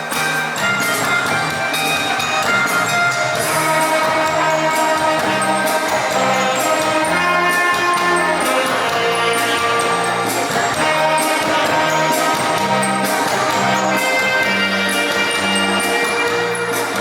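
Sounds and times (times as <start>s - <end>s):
bass line: 0.0s - 17.0s
light percussion: 0.0s - 17.0s
saxophones playing a duet: 0.0s - 17.0s.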